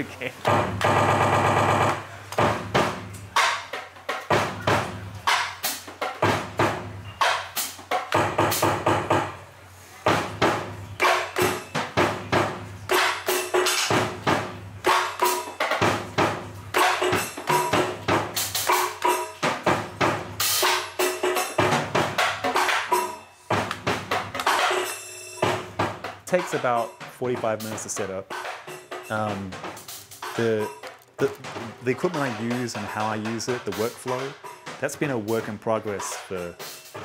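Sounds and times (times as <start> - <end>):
drum and percussion beat: 0.0 - 37.0.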